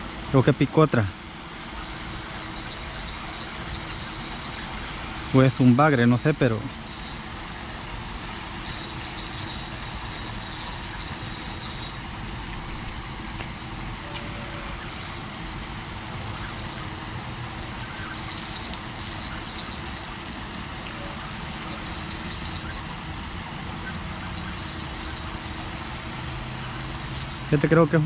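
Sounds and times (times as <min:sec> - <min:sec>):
distant road traffic: 0:00.0 - 0:28.0.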